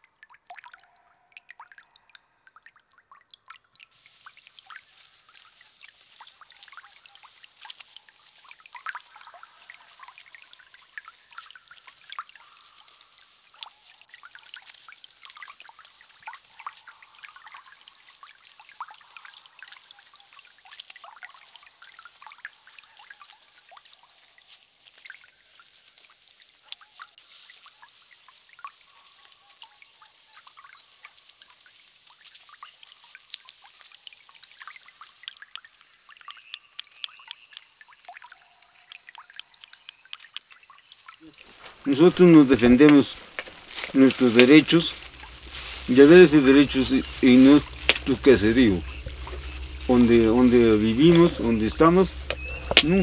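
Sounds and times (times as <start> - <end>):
faint trickling water: 0.0 - 53.0
water drips and splashes: 0.0 - 53.0.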